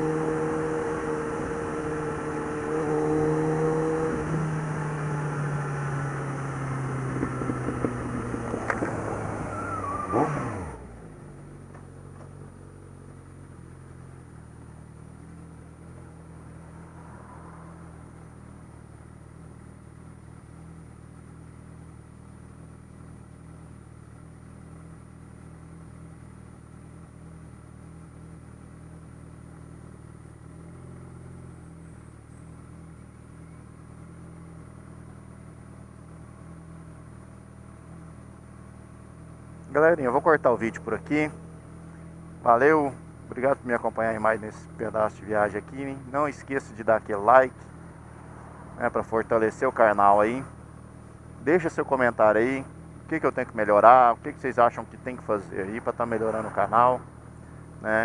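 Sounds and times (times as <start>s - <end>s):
motorcycle engine revs falling and idling: 0.0s - 58.0s.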